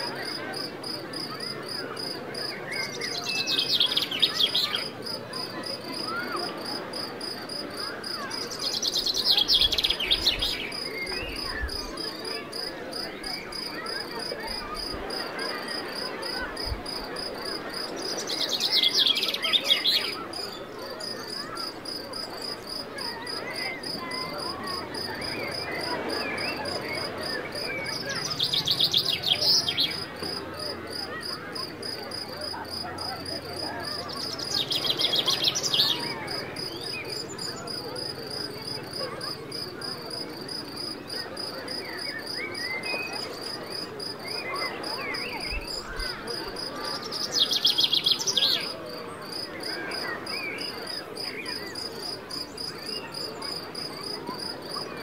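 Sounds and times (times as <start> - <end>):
crickets chirping: 0.2 - 54.8.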